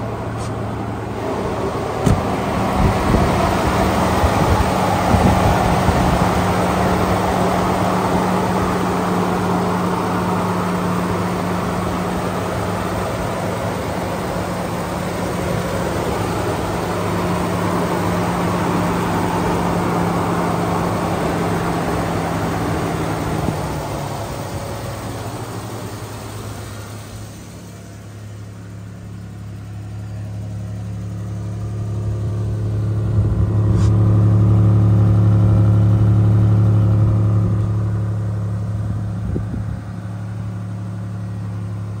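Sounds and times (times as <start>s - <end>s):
car engine idling: 0.0s - 42.0s
deep exhaust note: 0.0s - 42.0s.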